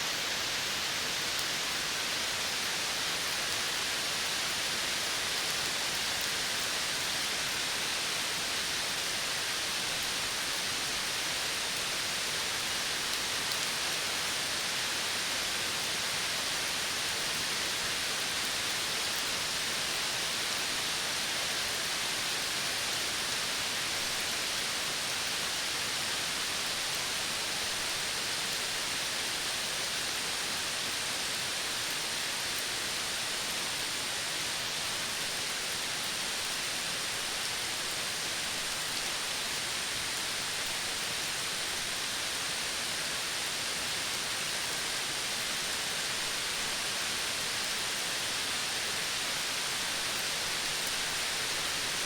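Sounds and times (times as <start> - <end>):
outdoor nature ambience hiss: 0.0 - 52.0.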